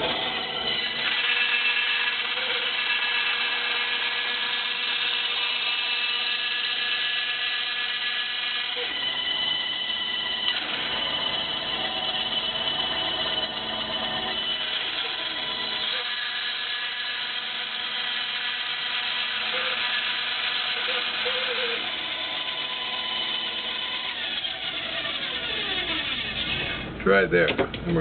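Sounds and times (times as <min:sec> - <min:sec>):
electric saw cutting wood: 0:00.0 - 0:27.0.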